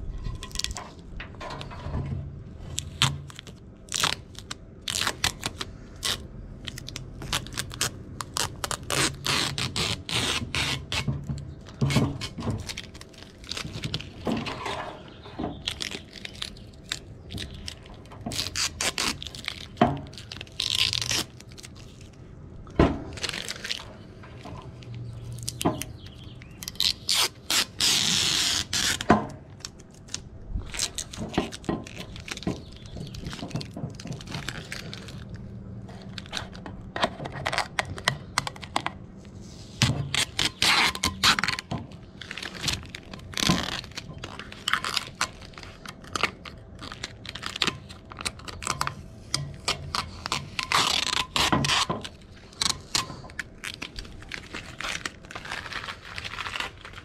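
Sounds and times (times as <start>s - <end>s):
plastic film crackling: 2.6s - 14.3s, 15.5s - 22.4s, 23.1s - 36.7s, 37.3s - 57.0s
tape tearing rips: 2.6s - 14.6s, 15.5s - 22.2s, 23.1s - 24.1s, 24.8s - 38.9s, 39.6s - 57.0s.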